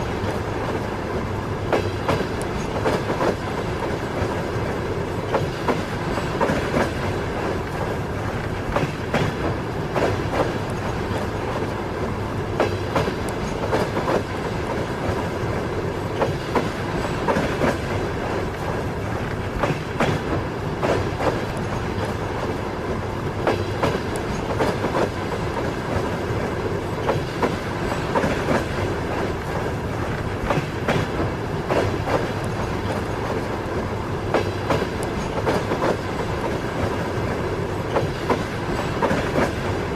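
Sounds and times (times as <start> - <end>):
train running rumble: 0.0 - 39.9
train wheels clacking over rail joints: 0.0 - 39.9.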